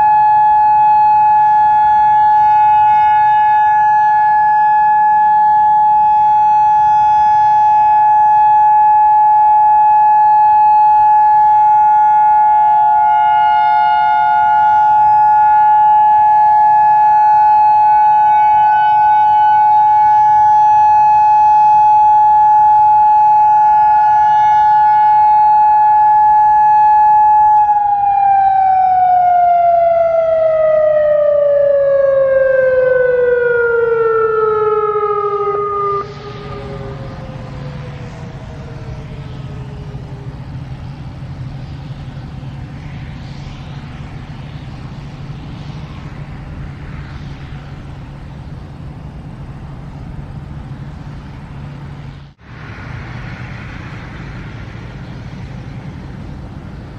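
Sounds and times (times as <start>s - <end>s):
distant wavering sirens: 0.0s - 56.9s
warning siren steady tone: 0.0s - 56.9s.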